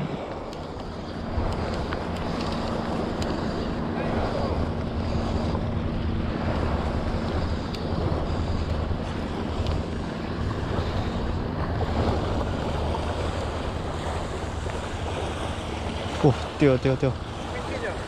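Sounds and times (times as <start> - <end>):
small waves washing on shore: 0.0 - 18.0
wind buffeting microphone: 0.0 - 18.0.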